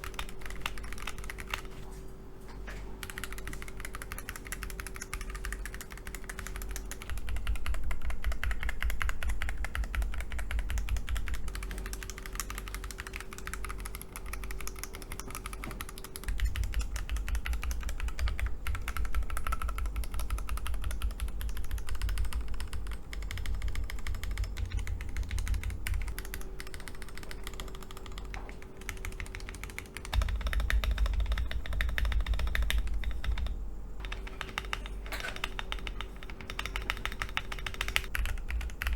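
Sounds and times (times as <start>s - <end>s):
mechanical keyboard typing: 0.0s - 1.8s, 3.0s - 38.9s.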